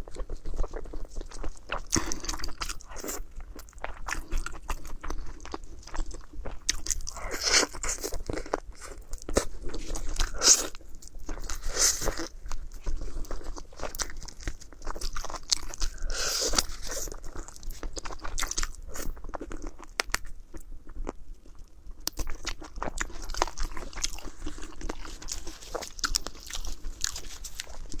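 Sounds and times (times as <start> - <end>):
person chewing and crunching: 0.0 - 28.0.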